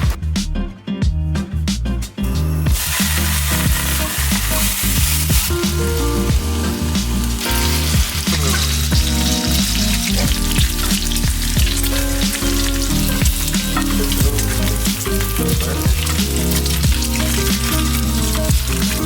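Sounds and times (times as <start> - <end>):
background music with beat: 0.0 - 19.0
food sizzling in a pan: 2.7 - 19.0.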